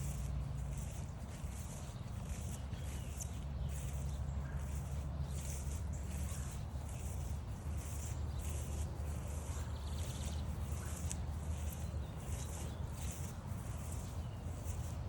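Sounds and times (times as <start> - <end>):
footsteps brushing through grass: 0.0 - 15.0
low steady rumble: 0.0 - 15.0.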